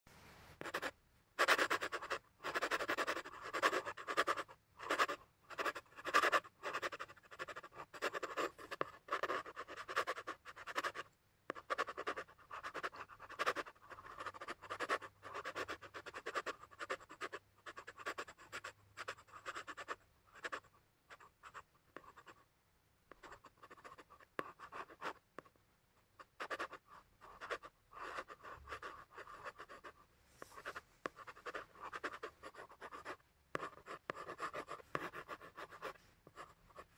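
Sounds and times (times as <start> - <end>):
pencil scratching on paper: 0.6 - 22.4, 23.1 - 25.5, 26.2 - 36.9.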